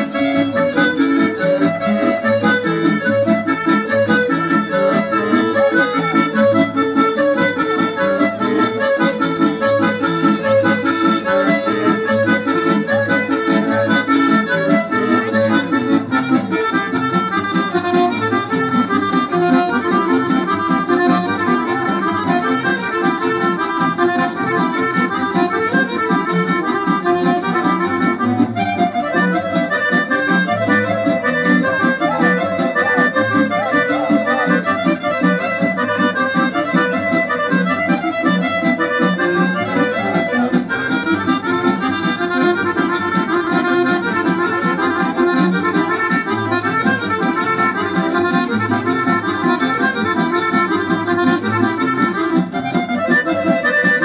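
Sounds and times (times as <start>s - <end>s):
accordion folk dance music: 0.0s - 54.0s.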